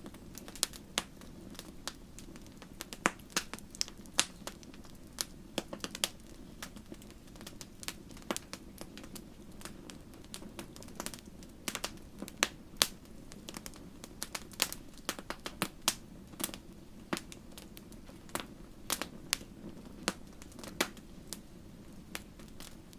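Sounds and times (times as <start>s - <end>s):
fireplace fire crackling: 0.0s - 22.9s
low steady hiss: 0.0s - 22.9s.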